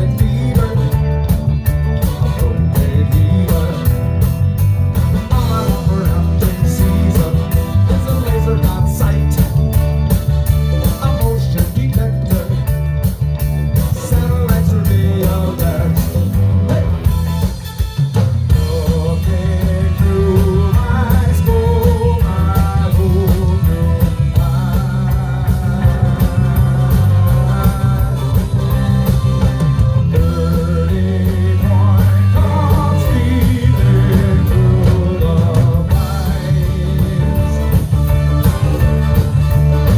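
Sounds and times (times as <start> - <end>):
drums: 0.0 - 39.9
guitar: 0.0 - 39.9
heavy bass line: 0.0 - 39.9
keyboard: 0.0 - 39.9.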